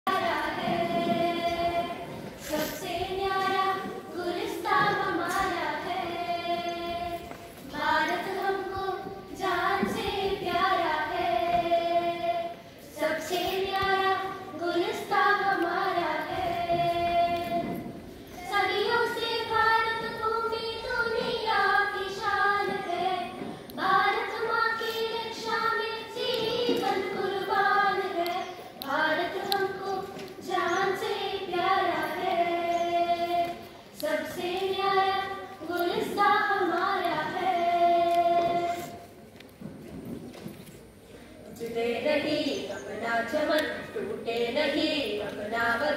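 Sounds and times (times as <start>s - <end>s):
girls singing in unison: 0.0s - 40.3s, 41.5s - 45.9s.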